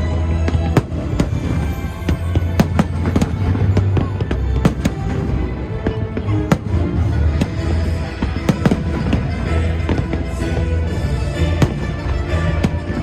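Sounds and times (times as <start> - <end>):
fireworks exploding: 0.0 - 13.0
music playing: 0.0 - 13.0.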